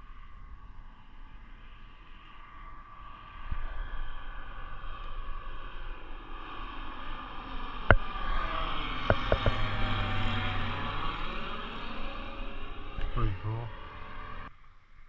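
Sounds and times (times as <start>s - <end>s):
propeller plane flying overhead: 0.0s - 14.5s.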